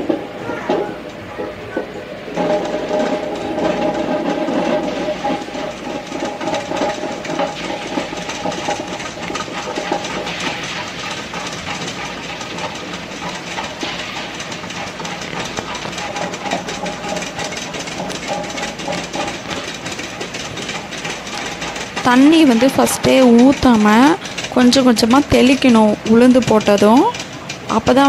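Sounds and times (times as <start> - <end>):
stone grinder whirring: 0.0 - 28.0
grains clicking against drum: 2.3 - 28.0.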